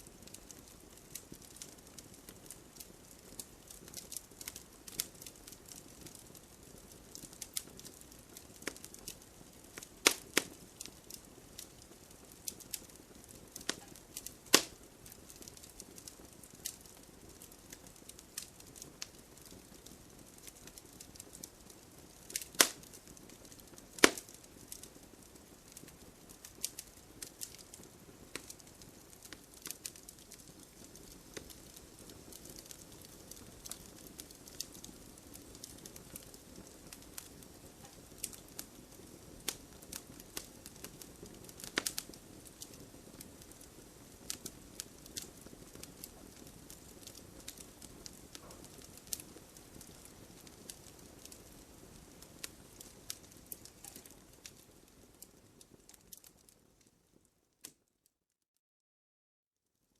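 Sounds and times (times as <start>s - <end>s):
campfire crackling and popping: 0.0s - 57.9s.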